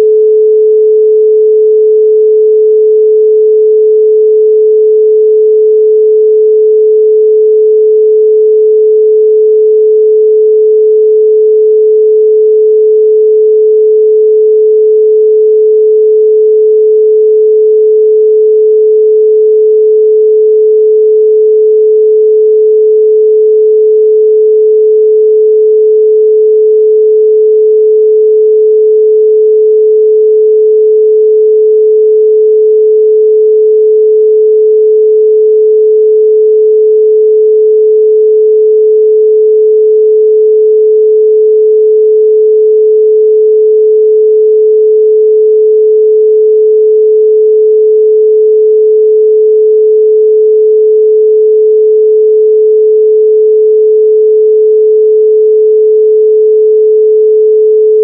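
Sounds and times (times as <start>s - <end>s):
pure sine tone: 0.0s - 58.0s.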